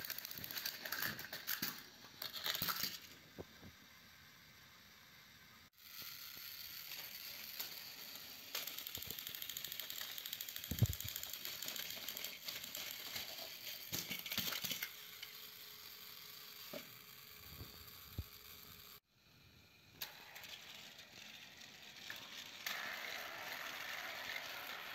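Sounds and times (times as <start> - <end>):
toy train motor whirring: 0.0 - 24.9.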